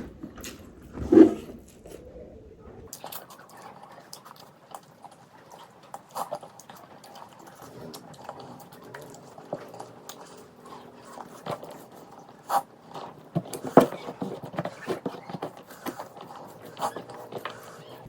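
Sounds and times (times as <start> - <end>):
person chewing food: 2.9 - 18.0.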